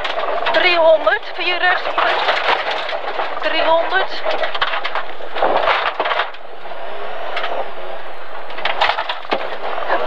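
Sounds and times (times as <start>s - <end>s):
car engine running: 0.0s - 10.0s
road and gravel noise: 0.0s - 10.0s.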